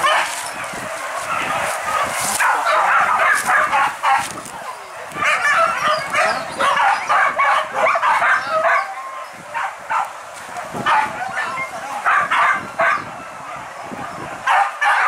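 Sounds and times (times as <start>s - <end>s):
dogs barking and yelping: 0.0s - 15.0s.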